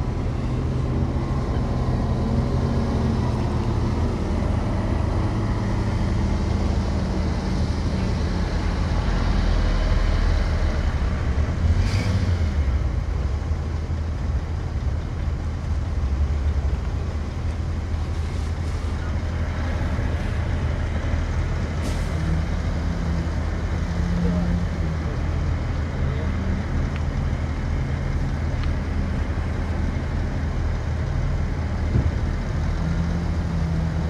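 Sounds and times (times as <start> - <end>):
diesel machinery running: 0.0 - 34.0.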